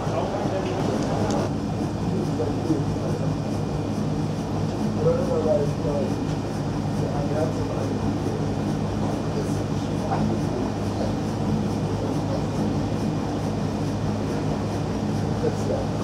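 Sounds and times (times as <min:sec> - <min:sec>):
faint murmur of voices: 0:00.0 - 0:16.0
low machinery hum: 0:00.0 - 0:16.0.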